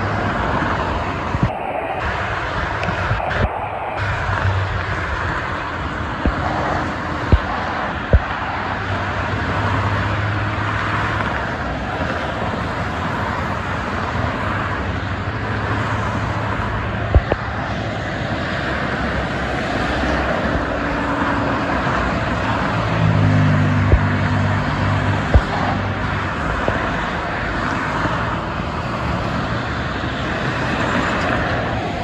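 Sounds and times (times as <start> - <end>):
expressway traffic noise: 0.0 - 32.0.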